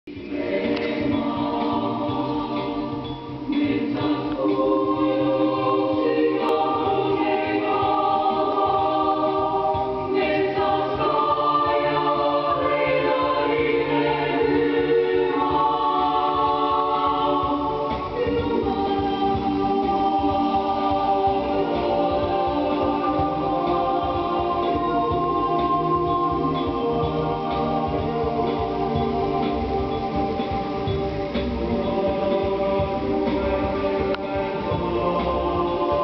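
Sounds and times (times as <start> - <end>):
choir singing held chords: 0.1 - 36.0.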